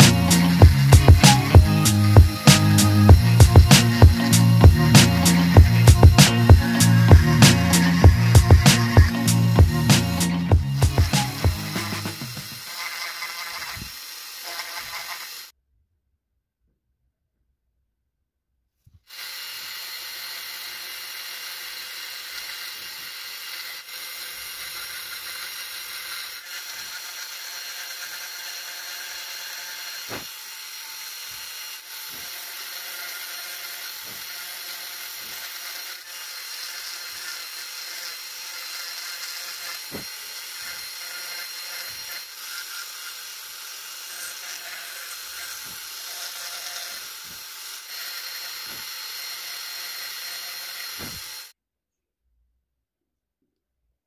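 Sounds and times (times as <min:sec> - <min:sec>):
rotary tool grinding wood: 0:00.0 - 0:15.6, 0:19.1 - 0:51.6.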